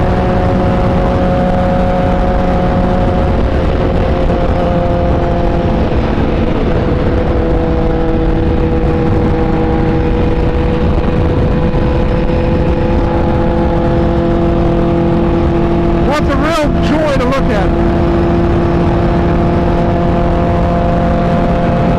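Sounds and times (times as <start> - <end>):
motorcycle engine cruising: 0.0 - 21.9
wind rush on microphone: 0.0 - 21.9.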